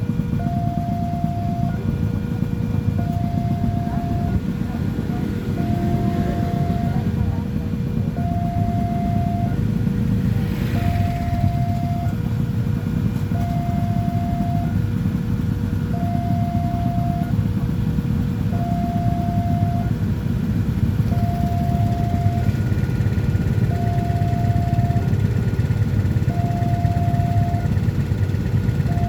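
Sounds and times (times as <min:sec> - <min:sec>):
steady low rumble: 0:00.0 - 0:29.0
two-tone crossing alarm: 0:00.3 - 0:02.1, 0:02.8 - 0:09.8, 0:10.6 - 0:17.7, 0:18.4 - 0:20.1, 0:20.7 - 0:29.0.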